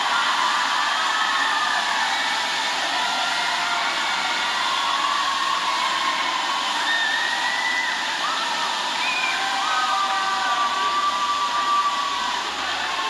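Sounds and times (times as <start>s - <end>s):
crowd cheering: 0.0s - 13.0s.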